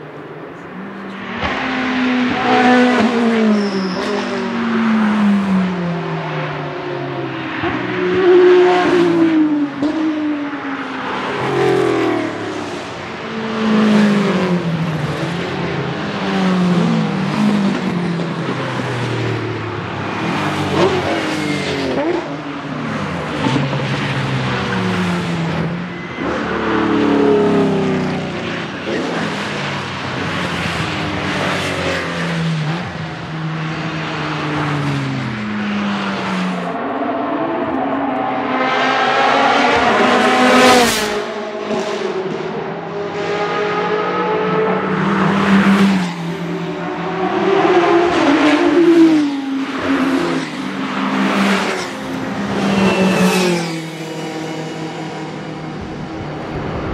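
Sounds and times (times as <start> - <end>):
race car engines revving: 0.0 - 56.9.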